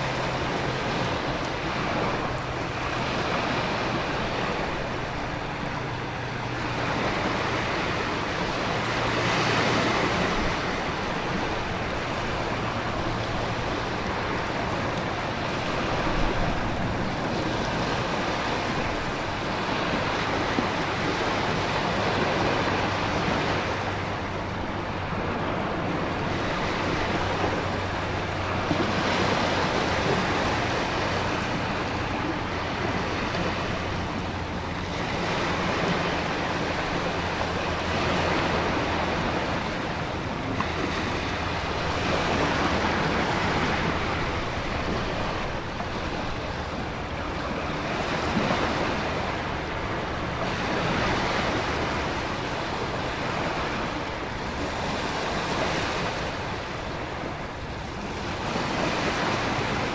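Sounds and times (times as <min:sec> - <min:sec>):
ocean waves breaking: 0:00.0 - 0:59.9
wind: 0:00.0 - 0:59.9.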